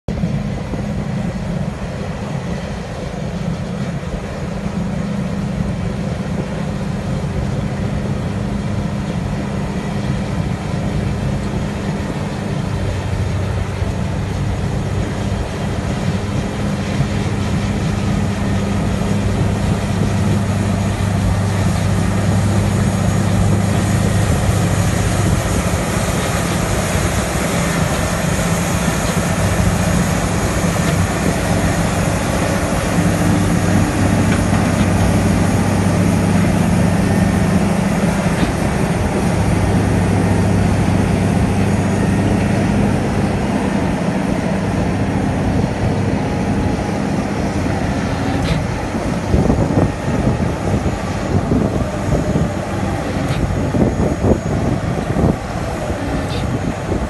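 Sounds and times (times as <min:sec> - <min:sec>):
heavy diesel engines running: 0:00.1 - 0:57.0.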